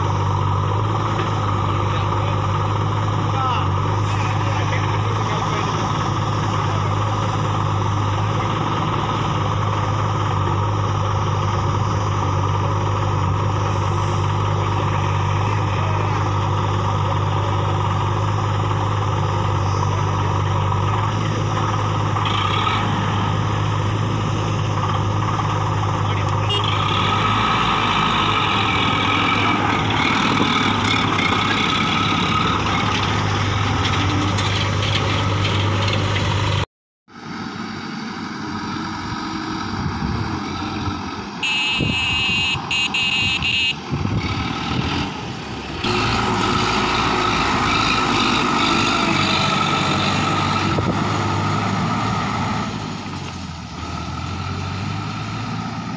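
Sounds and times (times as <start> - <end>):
diesel engines humming: 0.0 - 55.9
tractor engine hauling through sand: 0.0 - 55.9.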